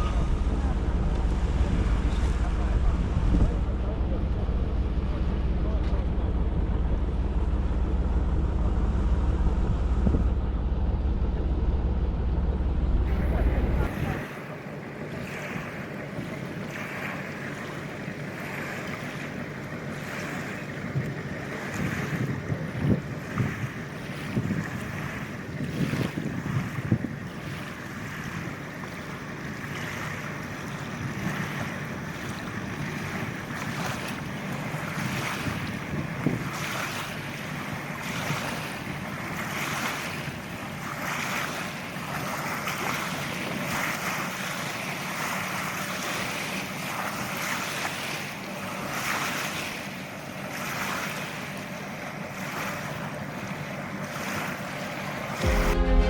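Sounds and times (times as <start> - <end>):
boat engine running: 0.0 - 56.0
lake water washing: 0.0 - 56.0
wind: 0.0 - 56.0.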